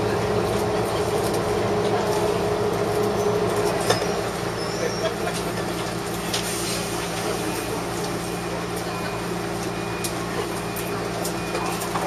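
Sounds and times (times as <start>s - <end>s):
train interior hum: 0.0s - 10.6s.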